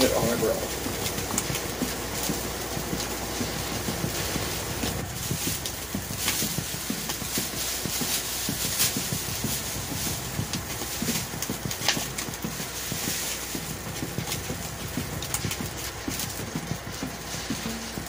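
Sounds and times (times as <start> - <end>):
fat popping: 0.0 - 18.0
meat sizzling on a grill: 0.0 - 18.0.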